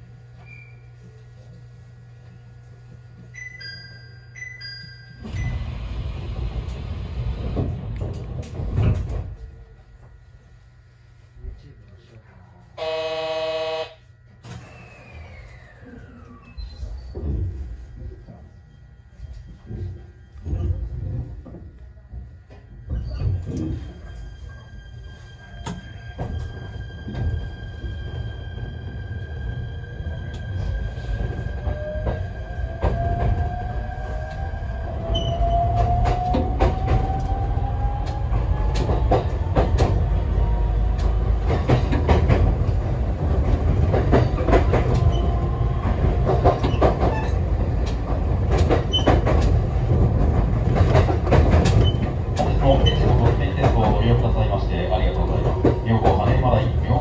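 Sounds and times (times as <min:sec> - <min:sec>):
electric train whine and rumble: 0:00.0 - 0:57.0.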